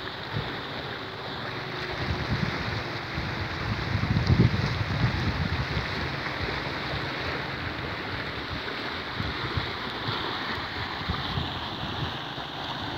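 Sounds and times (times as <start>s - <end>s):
floodwater rushing: 0.0s - 12.9s
wind buffeting microphone: 0.0s - 12.9s.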